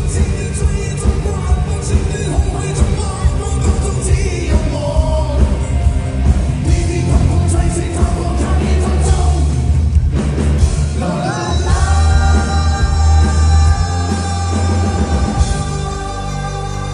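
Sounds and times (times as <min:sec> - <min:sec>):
rock band with heavy bass: 0:00.0 - 0:16.9.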